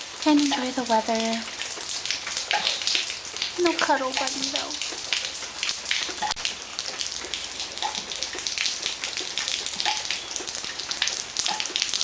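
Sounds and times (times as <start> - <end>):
raindrops ticking on hard surface: 0.0 - 12.0
steady rainfall: 0.0 - 12.0.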